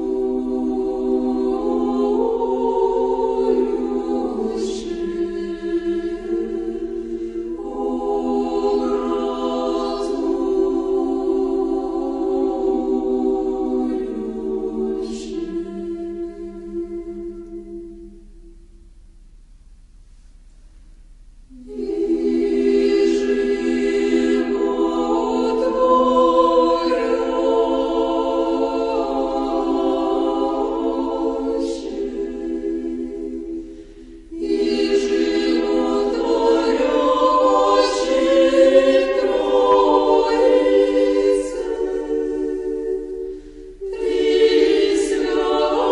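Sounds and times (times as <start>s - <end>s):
a cappella choir singing: 0.0s - 18.9s, 21.5s - 45.9s.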